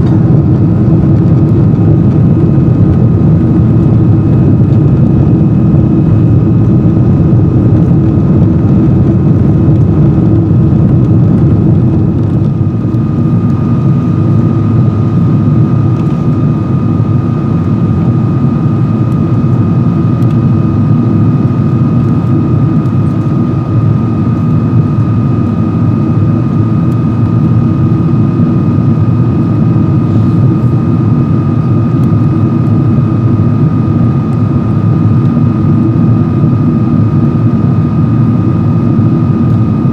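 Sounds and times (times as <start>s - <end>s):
jet engine rumble in cabin: 0.0s - 39.9s
thin steady whine: 0.0s - 39.9s.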